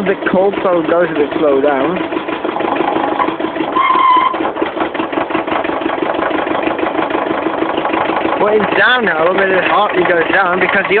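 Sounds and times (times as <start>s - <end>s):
diesel tractor engine clatter: 0.0s - 11.0s.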